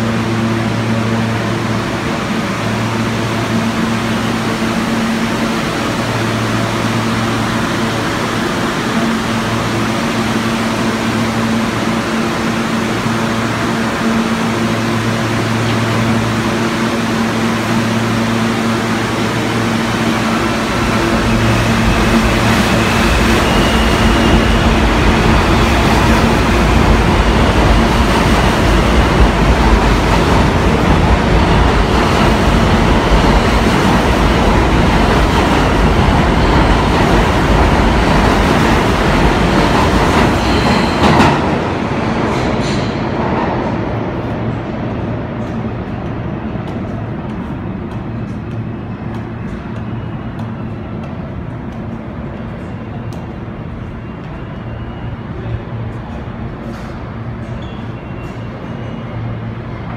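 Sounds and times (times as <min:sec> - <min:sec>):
subway train humming: 0:00.0 - 0:59.9
train rumble and wheel noise: 0:00.0 - 0:59.9.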